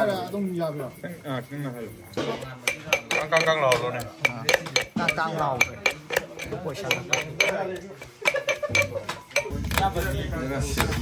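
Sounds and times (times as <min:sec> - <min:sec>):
people talking: 0:00.0 - 0:11.0
cutlery and dishes clinking: 0:02.0 - 0:11.0.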